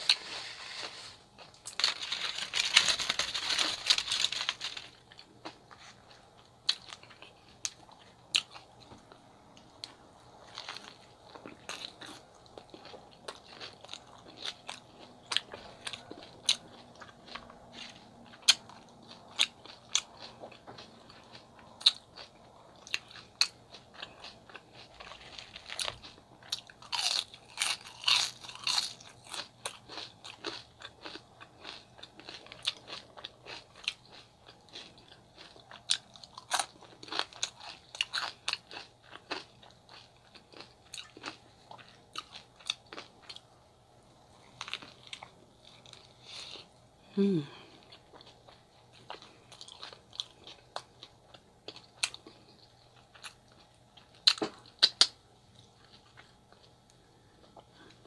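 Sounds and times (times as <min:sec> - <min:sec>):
chewing and biting food: 0:00.0 - 0:43.5, 0:44.4 - 0:46.7, 0:47.6 - 0:58.0.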